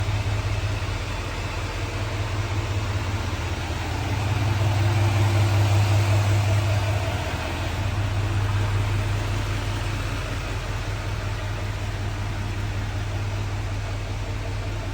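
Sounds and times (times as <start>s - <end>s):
diesel truck engine idling: 0.0s - 14.9s.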